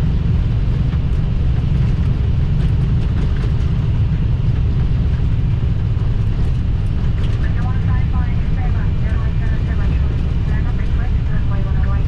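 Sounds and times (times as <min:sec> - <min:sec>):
loud steady low rumble: 0:00.0 - 0:12.0.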